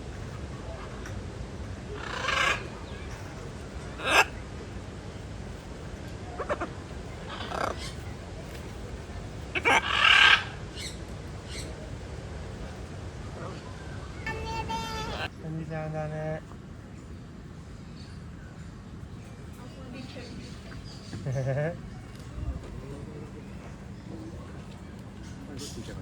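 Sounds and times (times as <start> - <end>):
birds calling: 0.1 - 26.0.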